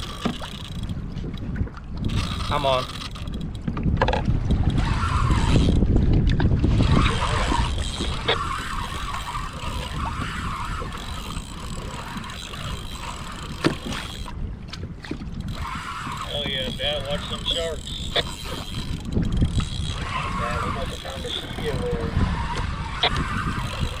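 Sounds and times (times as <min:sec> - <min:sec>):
water noise: 0:00.0 - 0:24.0
wind rumbling on microphone: 0:00.0 - 0:24.0.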